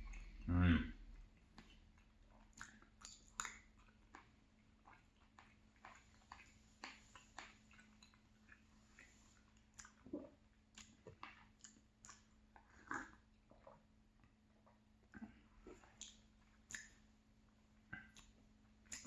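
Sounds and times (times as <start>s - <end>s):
close-miked chewing: 0.0s - 19.0s
wet mouth clicks: 1.2s - 13.8s, 15.2s - 17.0s, 18.0s - 19.0s.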